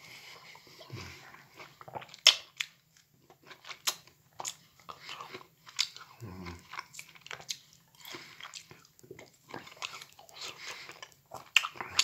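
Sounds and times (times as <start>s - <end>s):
person chewing juicy fruit: 0.0s - 12.0s.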